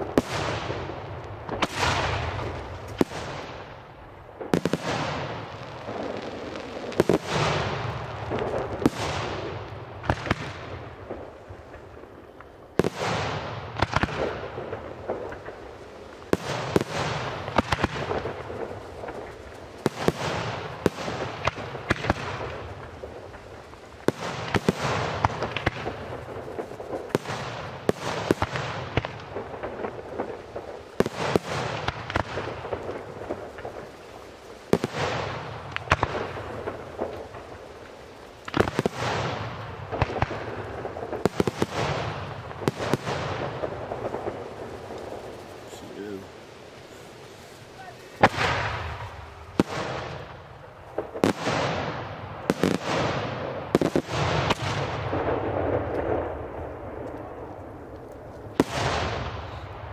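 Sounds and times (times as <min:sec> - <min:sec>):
crackling firework pops: 0:00.0 - 0:59.9.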